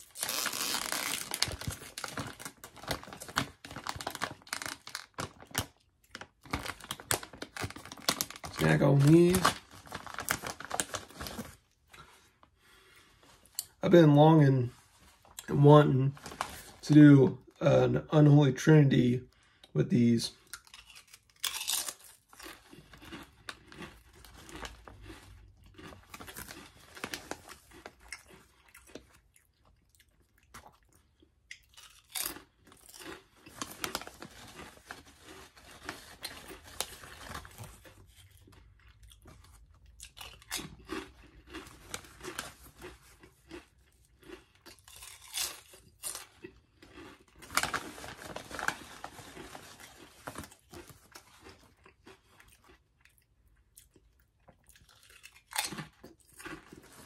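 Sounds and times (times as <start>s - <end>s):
person chewing crunchy chips: 0.0s - 14.0s, 20.3s - 57.0s.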